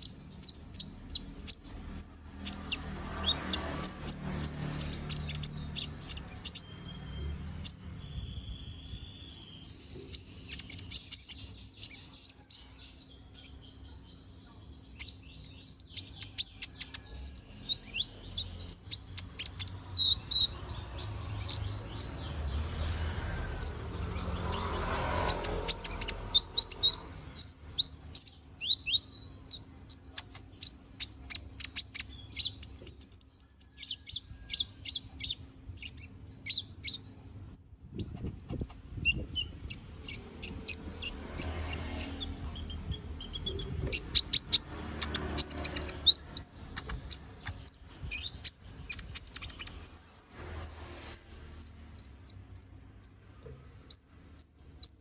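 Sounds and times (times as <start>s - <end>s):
sunbird high chirps and trills: 0.0s - 55.0s.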